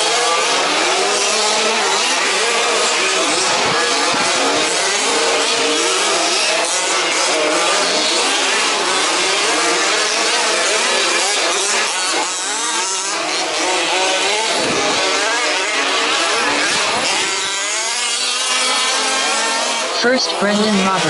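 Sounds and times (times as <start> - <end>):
small two-stroke engines revving: 0.0 - 21.0.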